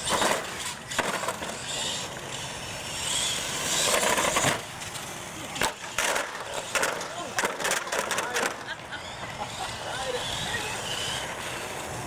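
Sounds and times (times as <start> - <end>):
electric motor and tyres whining: 0.0 - 12.0.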